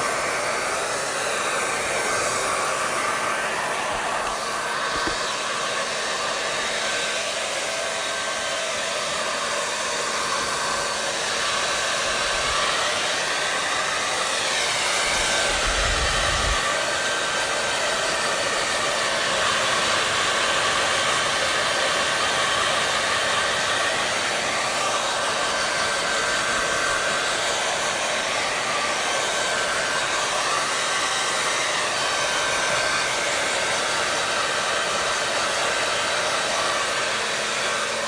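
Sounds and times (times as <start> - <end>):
hair dryer running: 0.0 - 38.0.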